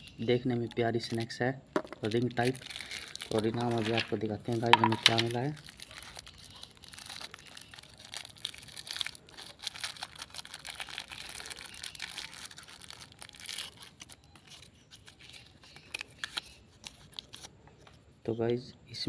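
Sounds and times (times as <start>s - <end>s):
plastic wrapper crinkling: 0.7s - 17.5s.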